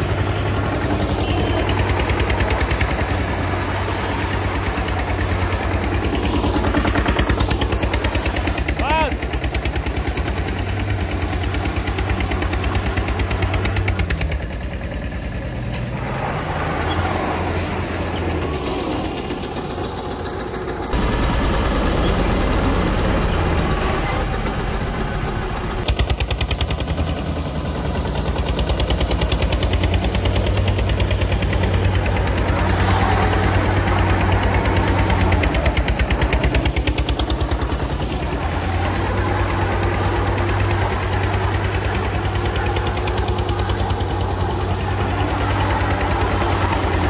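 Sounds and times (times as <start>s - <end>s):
diesel engines clattering under load: 0.0s - 47.0s.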